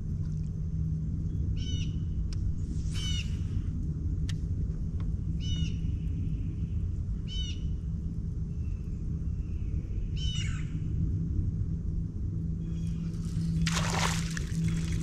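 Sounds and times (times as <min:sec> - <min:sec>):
faint low hum: 0:00.0 - 0:15.0
wind rumble on microphone: 0:00.0 - 0:15.0.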